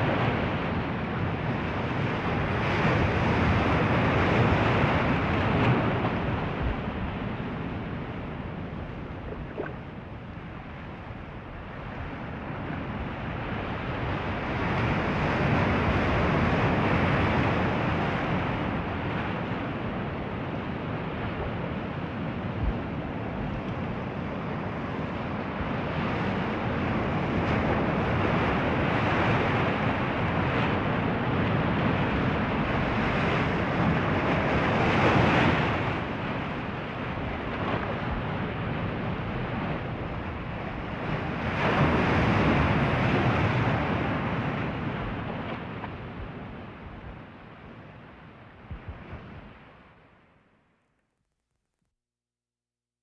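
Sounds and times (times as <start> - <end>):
ocean waves breaking: 0.0 - 50.2.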